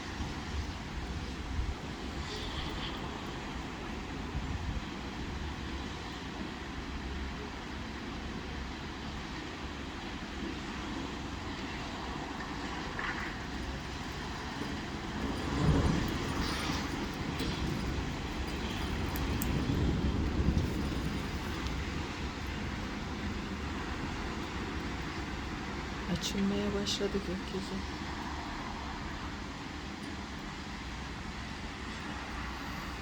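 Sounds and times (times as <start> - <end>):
steady rain: 0.0 - 33.0
traffic on a wet street: 0.0 - 33.0.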